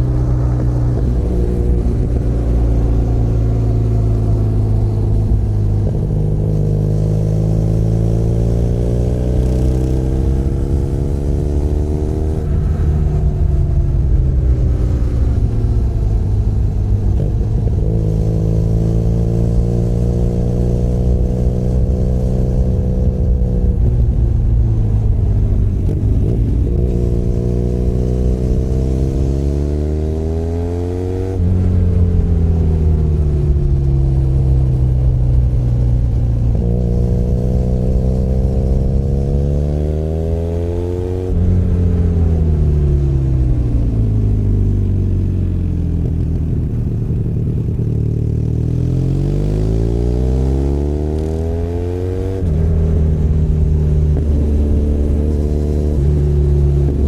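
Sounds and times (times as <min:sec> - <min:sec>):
motorcycle engine revving through gears: 0:00.0 - 0:57.0.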